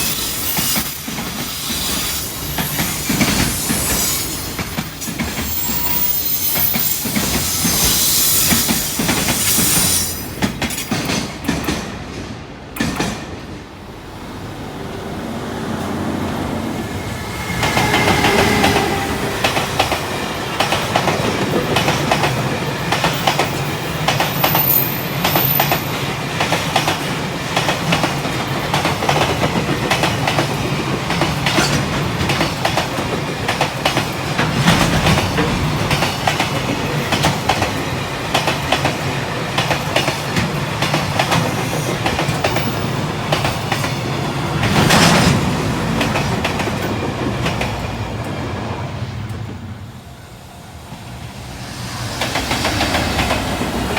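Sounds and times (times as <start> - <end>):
train wheels clacking over rail joints: 0.0 - 13.8, 17.4 - 49.6.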